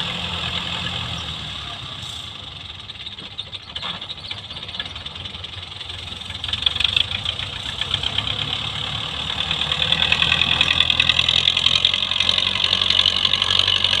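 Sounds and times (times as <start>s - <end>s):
tractor diesel engine clattering: 0.0s - 14.0s.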